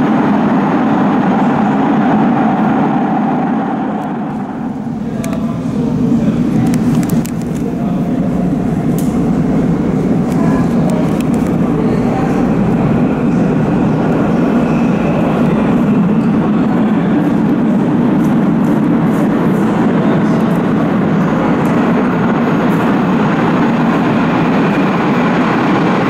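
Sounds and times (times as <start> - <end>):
train rumbling in tunnel: 0.0 - 26.0.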